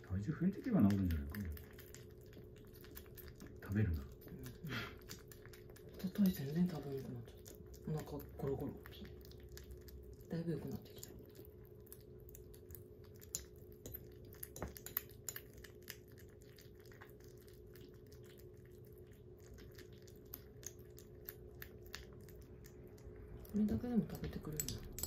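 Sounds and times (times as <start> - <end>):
kittens lapping and chewing: 0.0 - 25.0.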